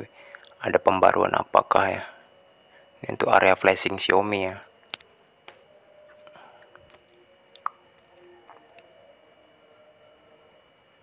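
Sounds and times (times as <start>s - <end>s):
insect chirping trill: 0.0s - 11.0s.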